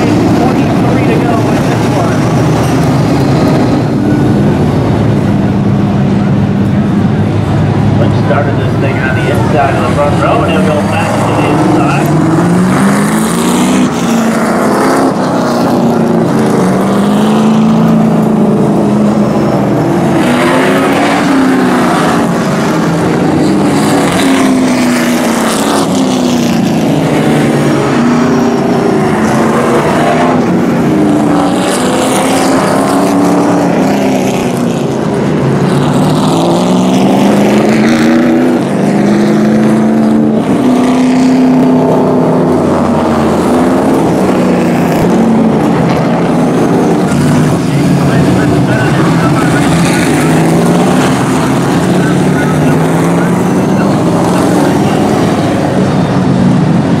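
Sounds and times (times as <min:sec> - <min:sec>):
race truck engines: 0:00.0 - 0:57.0.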